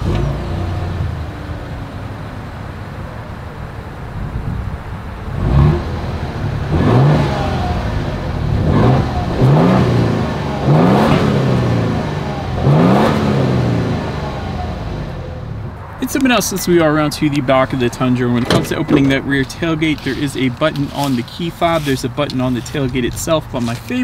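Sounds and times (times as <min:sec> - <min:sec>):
truck engine idling and revving: 0:00.0 - 0:24.0.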